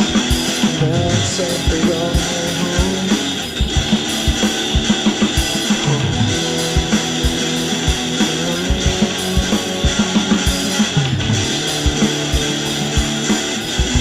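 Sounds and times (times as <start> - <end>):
drum kit: 0.0 - 14.0
guitar: 0.0 - 14.0.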